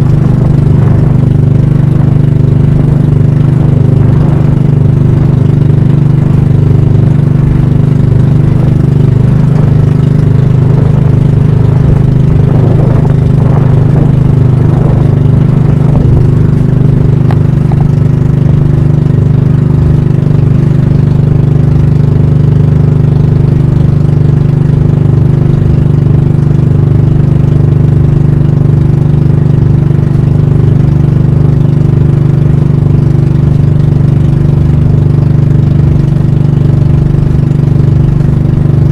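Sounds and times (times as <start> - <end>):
boat engine running steadily: 0.0 - 38.9.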